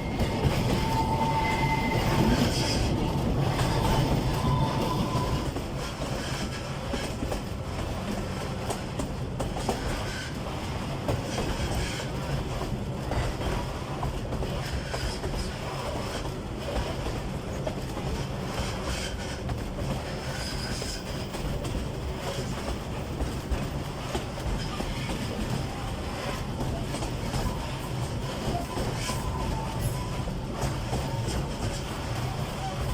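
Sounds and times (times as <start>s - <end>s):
diesel locomotive engine drone: 0.0s - 32.9s
train wheels rolling: 0.0s - 32.9s.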